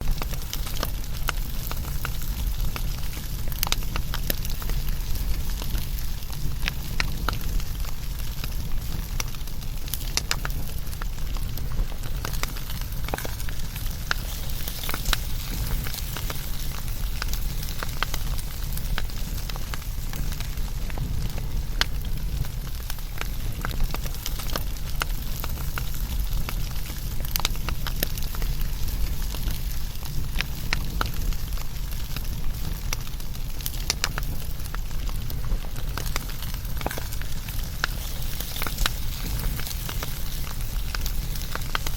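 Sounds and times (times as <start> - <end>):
low rumble of flames: 0.0 - 41.9
wood fire crackling: 0.0 - 41.9.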